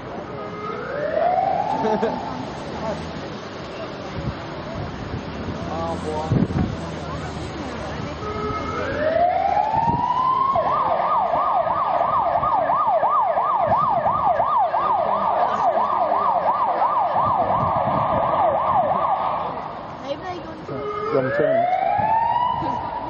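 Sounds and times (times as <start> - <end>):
emergency vehicle siren: 0.0 - 3.6, 5.4 - 23.0.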